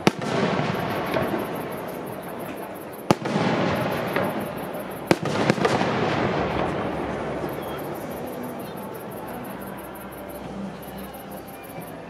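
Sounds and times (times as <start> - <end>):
firework shells bursting: 0.0 - 10.5
fireworks rumble: 0.0 - 12.0.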